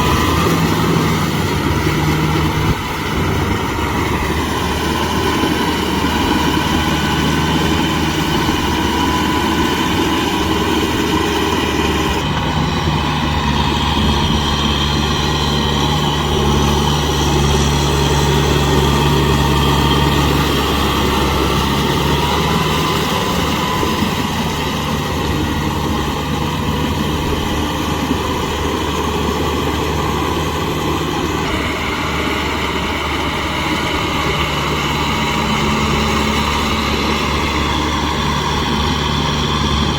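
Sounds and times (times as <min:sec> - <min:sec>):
steady whine: 0:00.0 - 0:39.9
tractor diesel engine running: 0:00.0 - 0:39.9.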